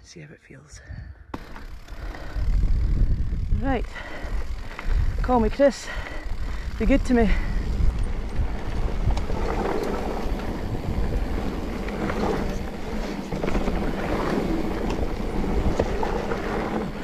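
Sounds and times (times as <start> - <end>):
bike clicks and rattles: 1.3 - 17.0
low rumble: 1.4 - 17.0
wind on microphone: 2.0 - 17.0.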